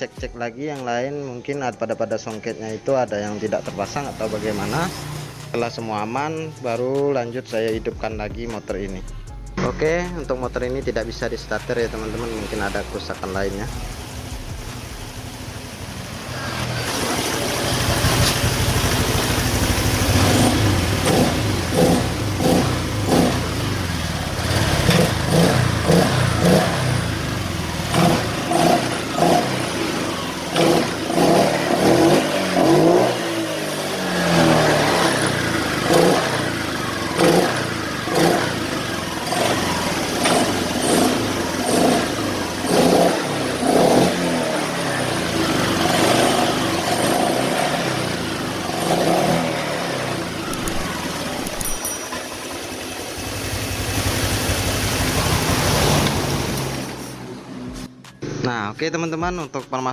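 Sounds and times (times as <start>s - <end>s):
scooter engine revving: 3.1s - 6.3s, 9.6s - 58.5s.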